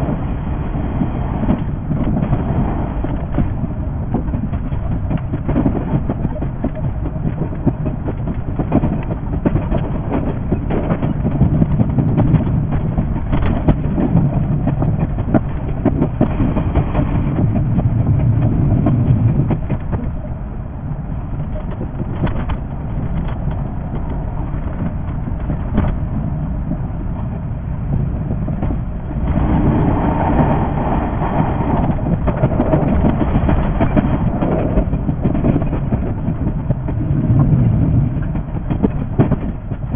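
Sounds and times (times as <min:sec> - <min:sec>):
electric train rumbling: 0:00.0 - 0:39.9
wheels clicking on track: 0:00.0 - 0:39.9.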